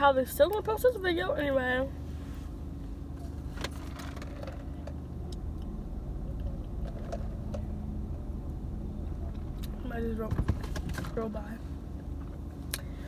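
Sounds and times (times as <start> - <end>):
low hum inside a car: 0.0 - 13.0.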